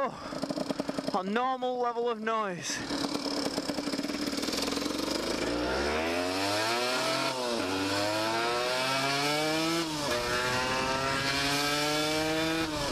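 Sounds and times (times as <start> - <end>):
motorcycle engine accelerating: 0.0 - 1.3, 2.7 - 12.9.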